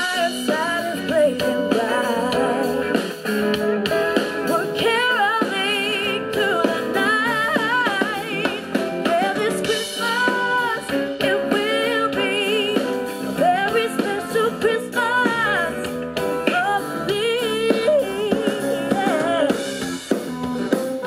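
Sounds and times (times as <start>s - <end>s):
woman singing into a microphone: 0.0s - 3.3s, 4.2s - 19.8s
instrumental accompaniment: 0.0s - 21.0s.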